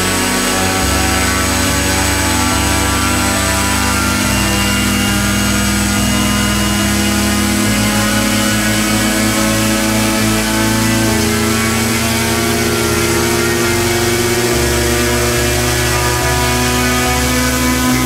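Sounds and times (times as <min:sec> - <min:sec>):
electric motor and propeller whine: 0:00.0 - 0:18.0.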